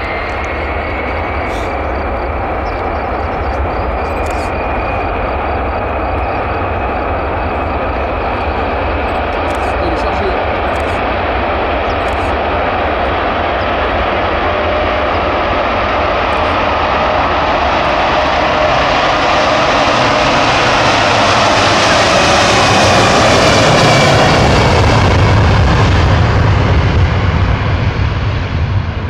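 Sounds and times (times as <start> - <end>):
deep rumble: 0.0 - 29.0
jet engines roaring at takeoff: 0.0 - 29.0.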